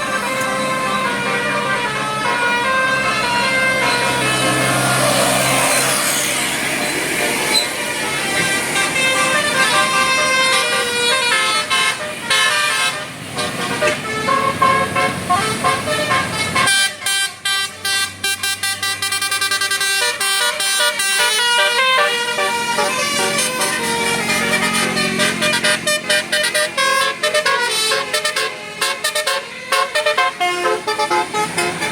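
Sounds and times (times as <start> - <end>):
musical bus horn melody: 0.0 - 31.9.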